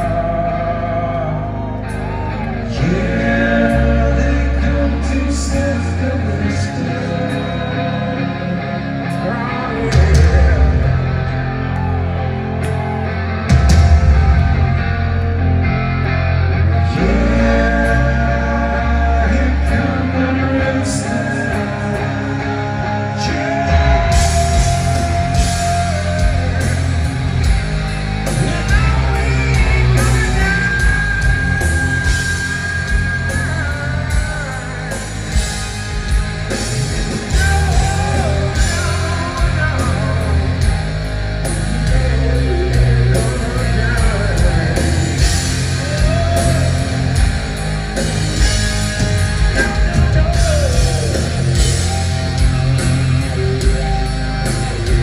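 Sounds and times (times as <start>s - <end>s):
person singing lead vocal: 0.0s - 14.6s, 16.5s - 27.6s, 28.2s - 55.0s
live heavy rock band: 0.0s - 55.0s.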